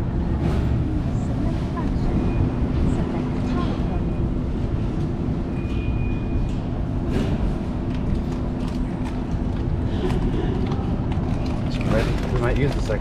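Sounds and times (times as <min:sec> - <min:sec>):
vehicle rumble and hum: 0:00.0 - 0:13.0.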